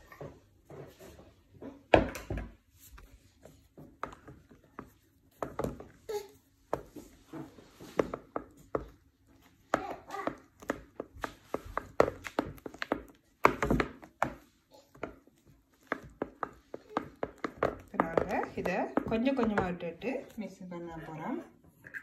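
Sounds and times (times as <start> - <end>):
spatula scraping mixing bowl: 2.8 - 22.0.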